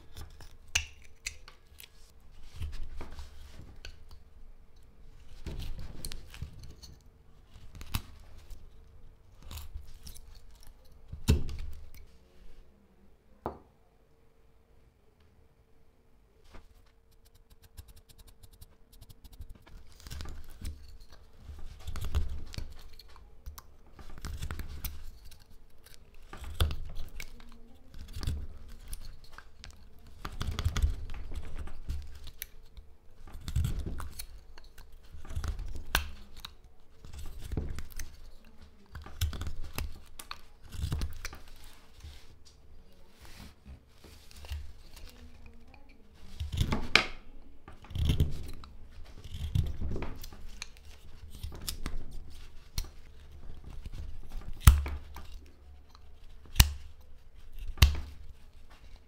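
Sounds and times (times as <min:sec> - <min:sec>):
knife carving wood: 0:00.0 - 0:12.1, 0:17.0 - 0:59.0
faint steady hum: 0:00.0 - 0:59.0.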